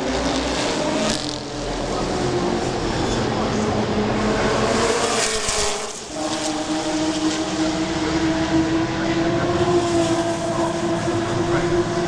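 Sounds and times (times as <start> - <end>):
race car engine revving high: 0.0 - 12.0.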